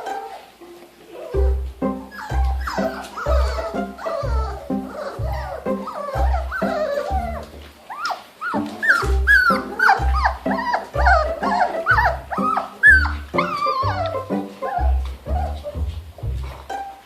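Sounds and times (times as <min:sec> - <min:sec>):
puppies whimpering and yipping: 0:00.0 - 0:17.0.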